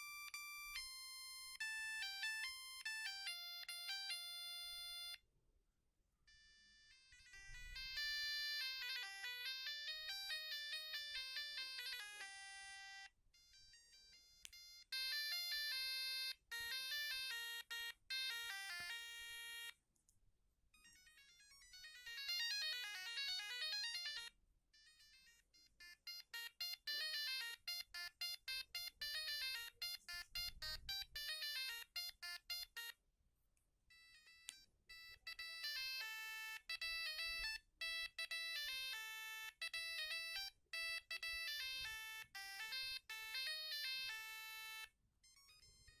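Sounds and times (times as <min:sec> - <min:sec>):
mobile phone ringtone beeping melodies: 0:00.0 - 0:05.2, 0:06.3 - 0:19.8, 0:20.7 - 0:33.0, 0:33.9 - 0:46.0.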